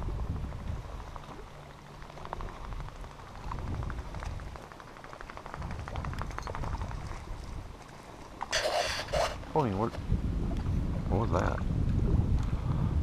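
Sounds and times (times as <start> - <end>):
small waves lapping and splashing: 0.0 - 12.6
wind rumble on microphone: 0.0 - 13.0.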